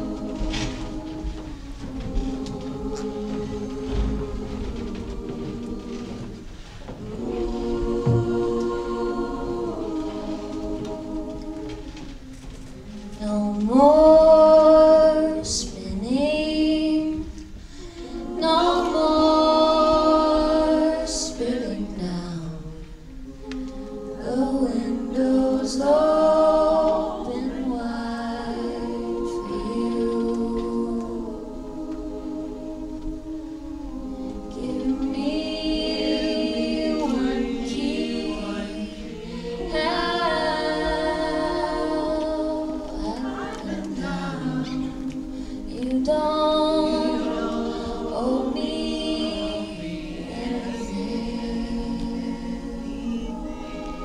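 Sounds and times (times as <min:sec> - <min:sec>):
women singing a cappella: 0:00.0 - 0:54.0.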